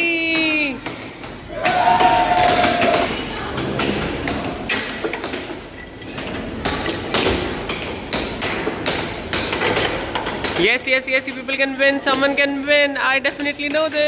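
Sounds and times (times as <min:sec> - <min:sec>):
air hockey puck clacking: 0:00.3 - 0:14.0.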